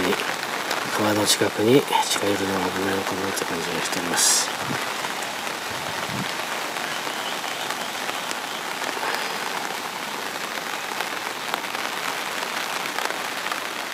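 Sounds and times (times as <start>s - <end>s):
heavy rain hissing: 0.0s - 13.9s
river rushing: 0.0s - 13.9s.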